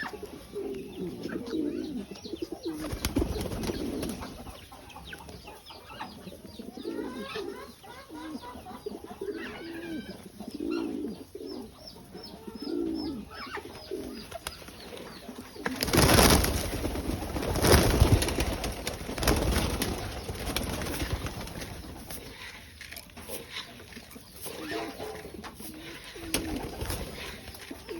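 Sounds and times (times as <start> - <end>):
pigeons cooing: 0.0 - 27.9.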